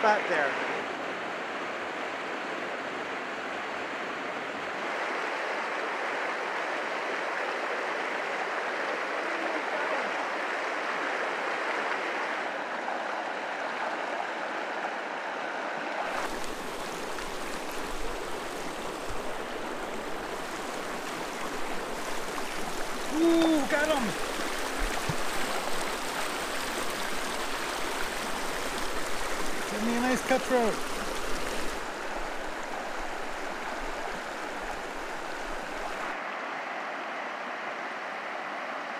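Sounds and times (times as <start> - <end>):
creek rushing over stones: 0.0 - 38.9.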